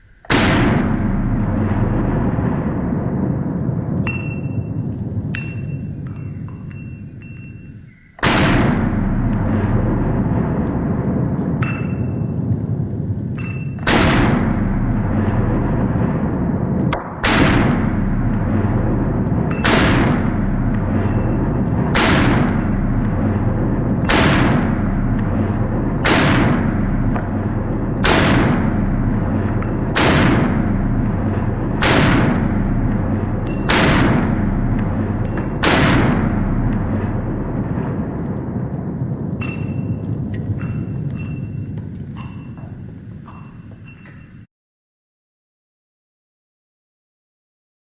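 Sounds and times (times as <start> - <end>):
heavy booming hits: 0.0 - 43.0
low sustained drone: 0.0 - 44.0.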